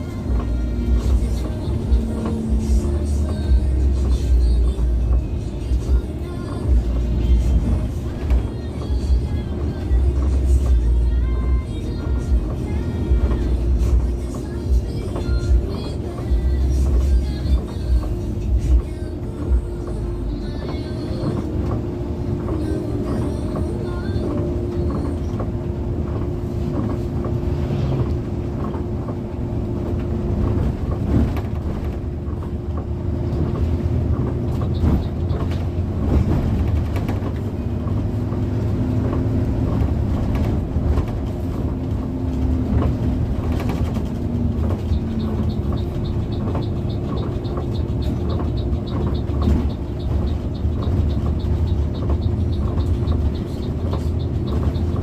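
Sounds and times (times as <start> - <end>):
bus engine and road rumble: 0.0 - 55.0
constant hum: 0.0 - 55.0.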